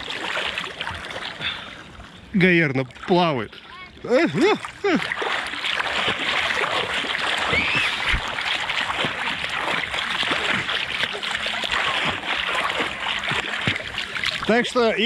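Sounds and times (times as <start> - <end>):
water splashing: 0.0 - 15.0.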